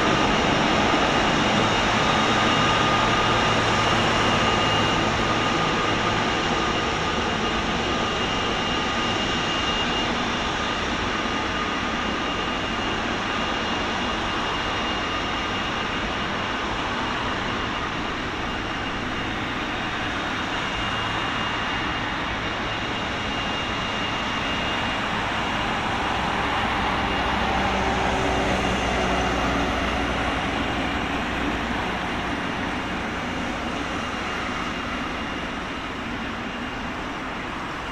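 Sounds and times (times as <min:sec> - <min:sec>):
jet engine roar: 0:00.0 - 0:37.9.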